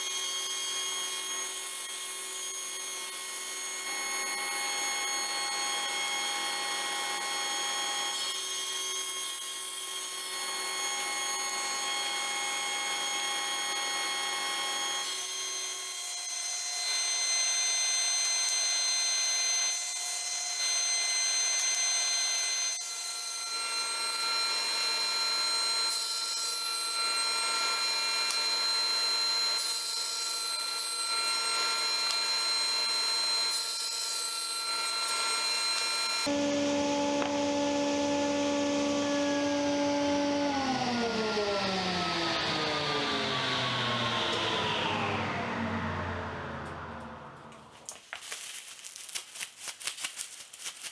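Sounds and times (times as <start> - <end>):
table saw cutting wood: 0.0 - 47.9.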